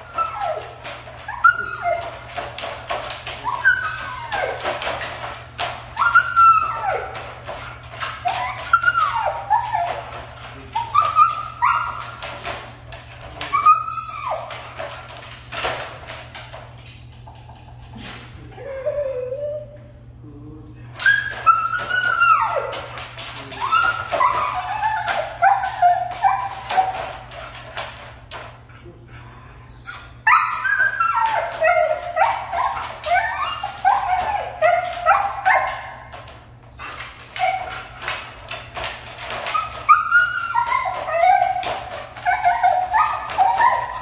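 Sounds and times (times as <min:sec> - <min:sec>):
dog whining and yipping: 0:00.0 - 0:12.7, 0:13.3 - 0:15.0, 0:18.4 - 0:20.2, 0:21.0 - 0:27.6, 0:29.6 - 0:44.0.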